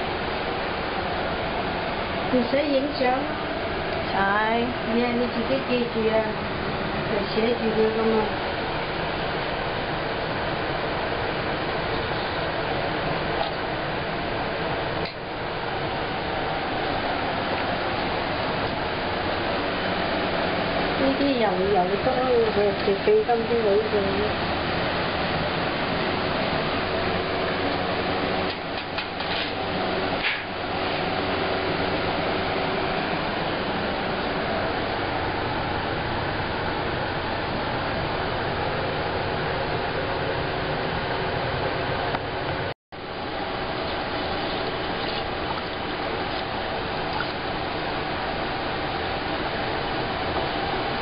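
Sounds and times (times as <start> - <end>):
faint hum: 0.0 - 51.0
fan-like rushing noise: 0.0 - 51.0.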